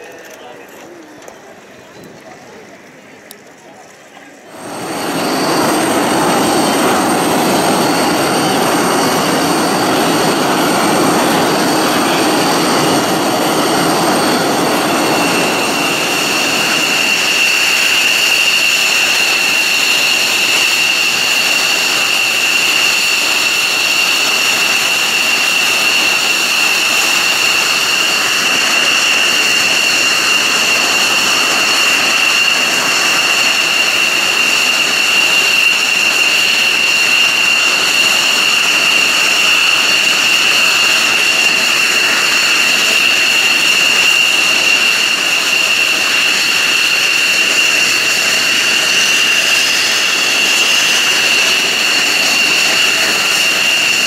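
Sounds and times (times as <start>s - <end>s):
jet engine idling whine: 0.0s - 54.0s.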